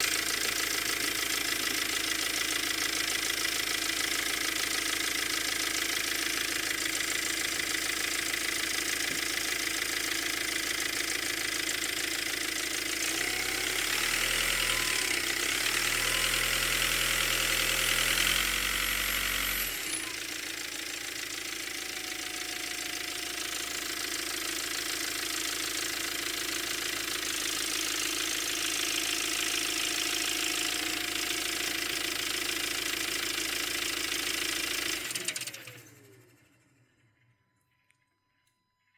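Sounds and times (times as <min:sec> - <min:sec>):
diesel car engine running: 0:00.0 - 0:37.4.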